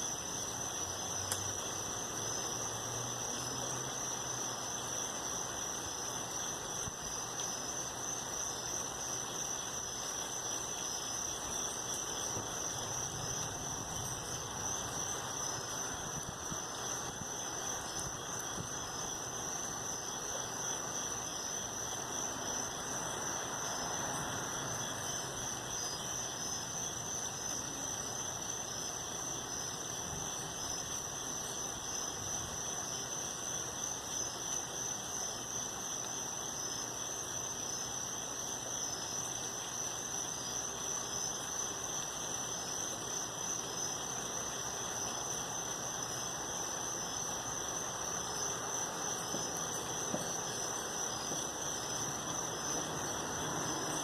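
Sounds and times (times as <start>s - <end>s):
low even hiss: 0.0s - 54.0s
night insects chirping: 0.0s - 54.0s.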